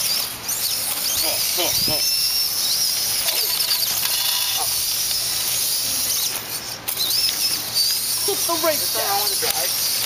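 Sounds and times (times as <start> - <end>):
electric motors whining: 0.0 - 10.0
steady high hiss: 0.0 - 10.0.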